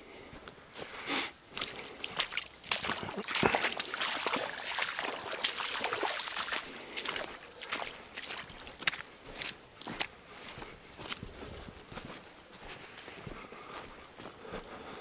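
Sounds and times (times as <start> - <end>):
boots sloshing through shallow water: 0.4 - 15.0.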